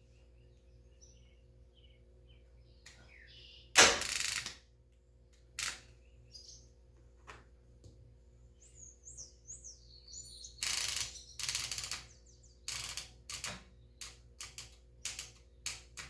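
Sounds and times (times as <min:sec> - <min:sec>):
birds chirping: 0:00.0 - 0:03.8, 0:05.6 - 0:07.0, 0:08.2 - 0:16.0.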